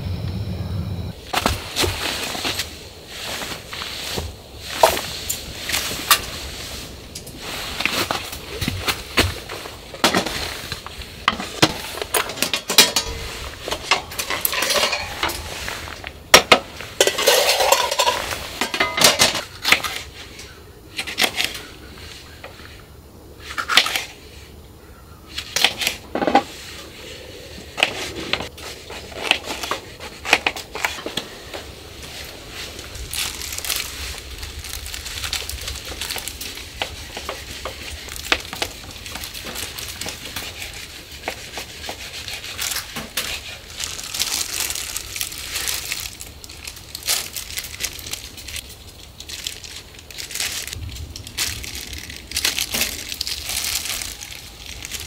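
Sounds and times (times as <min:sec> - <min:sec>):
plastic glove rustling: 0:01.3 - 0:20.4, 0:28.0 - 0:55.0.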